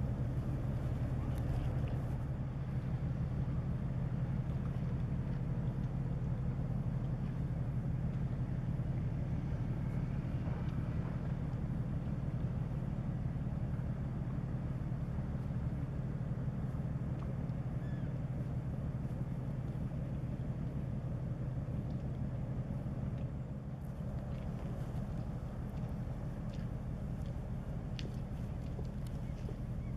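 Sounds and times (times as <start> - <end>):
faint harbour air noise: 0.0 - 29.9
ship diesel engines droning: 0.0 - 29.9.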